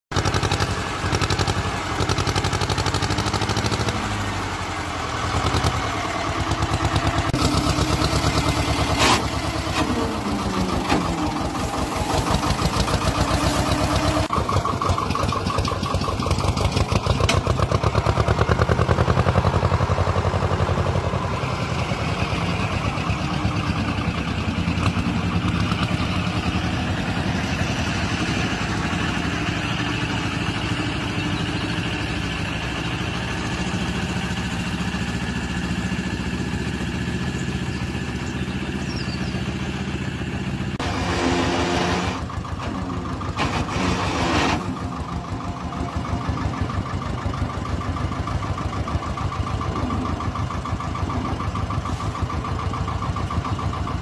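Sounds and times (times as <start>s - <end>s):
dumper engine running: 0.1s - 54.0s.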